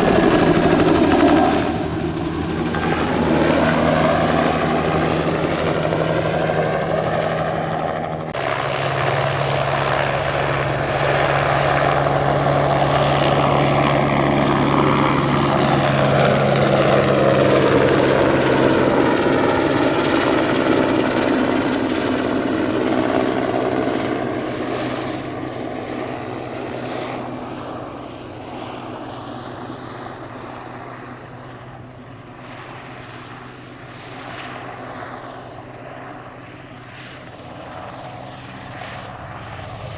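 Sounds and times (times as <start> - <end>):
helicopter flying past: 0.0 - 39.9.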